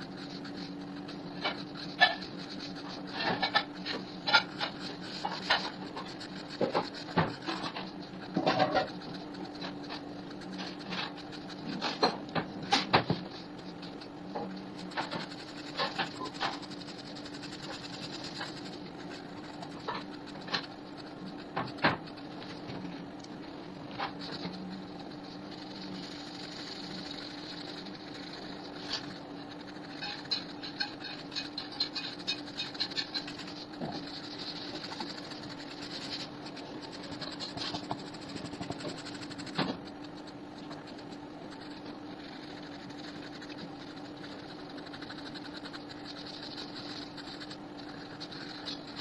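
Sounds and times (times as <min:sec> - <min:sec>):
pencil scratching on paper: 0:00.0 - 0:49.0
steady low hum: 0:00.0 - 0:49.0.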